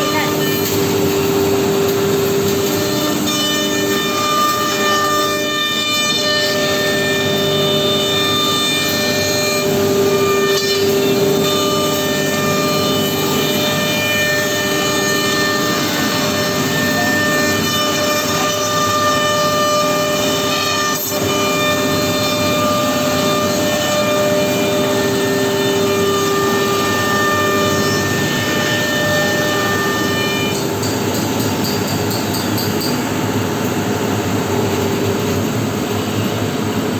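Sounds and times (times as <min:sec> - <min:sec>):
router spindle whine: 0:00.0 - 0:30.9
bit cutting workpiece: 0:00.0 - 0:36.6.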